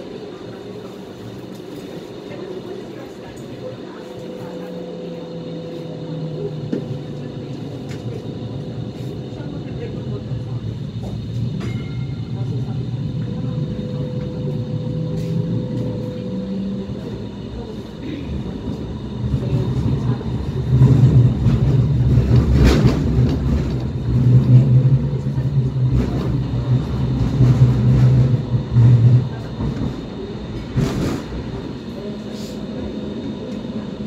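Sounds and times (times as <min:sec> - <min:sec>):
tram motors and wheels rumbling: 0:00.0 - 0:34.0.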